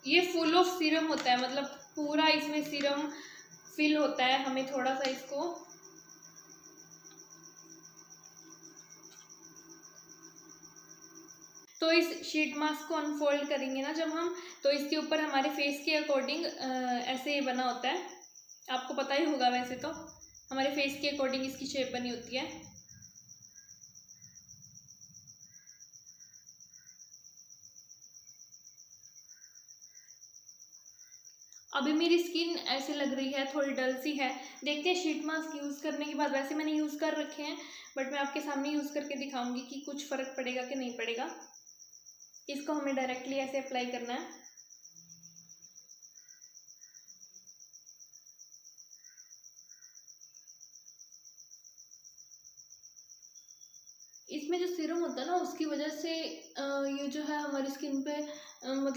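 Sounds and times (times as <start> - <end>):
high-pitched cricket trill: 0.0 - 58.9.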